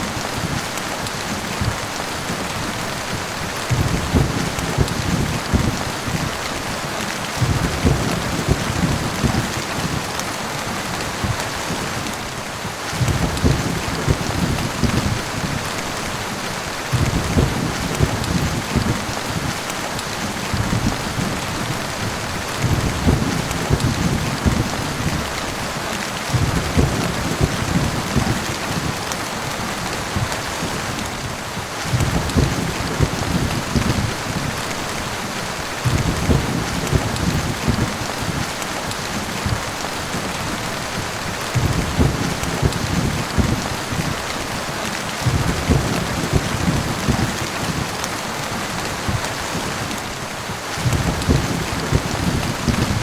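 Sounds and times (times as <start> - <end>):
rain hissing: 0.0 - 53.0
thunder rumbling: 0.1 - 10.2, 10.8 - 25.6, 26.2 - 48.0, 48.6 - 53.0.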